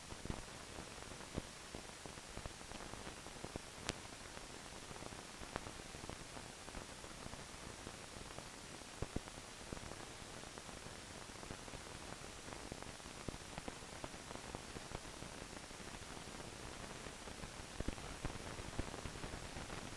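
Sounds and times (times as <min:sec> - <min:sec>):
film soundtrack surface hiss: 0:00.0 - 0:19.9.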